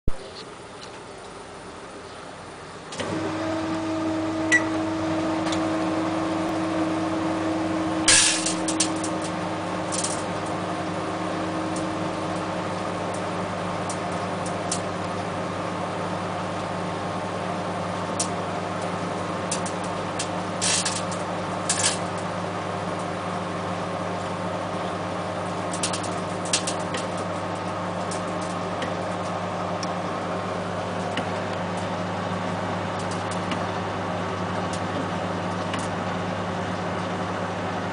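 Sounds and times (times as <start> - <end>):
microwave oven humming: 0.1 - 37.9.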